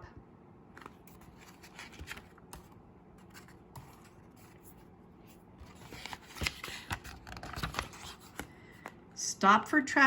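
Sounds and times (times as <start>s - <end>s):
paper rustling: 0.8s - 9.0s.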